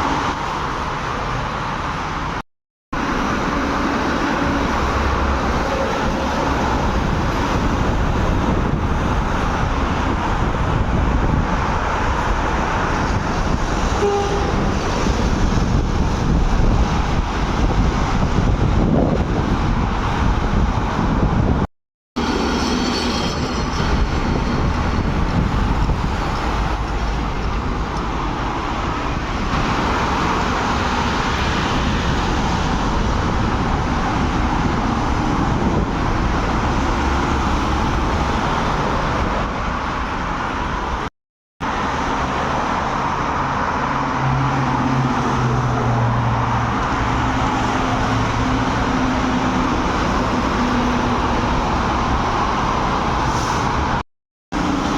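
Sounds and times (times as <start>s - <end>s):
heavy trucks driving: 0.0s - 2.4s, 3.0s - 54.9s.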